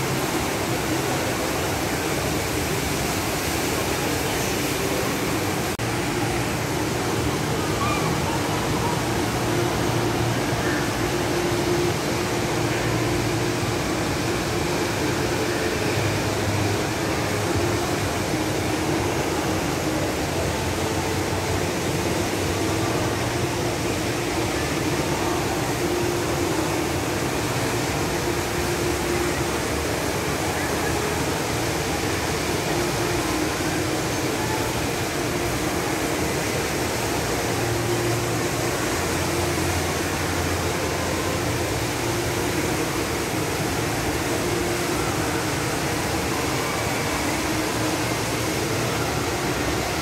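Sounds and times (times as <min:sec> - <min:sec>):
indoor waterfall roaring: 0:00.0 - 0:50.0.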